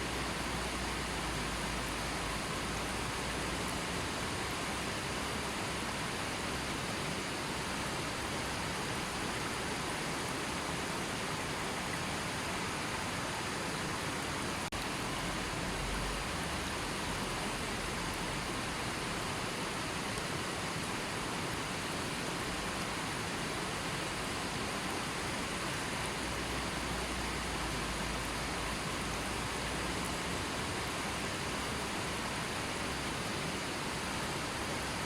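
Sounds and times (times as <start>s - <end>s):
river stream flowing: 0.0s - 35.0s.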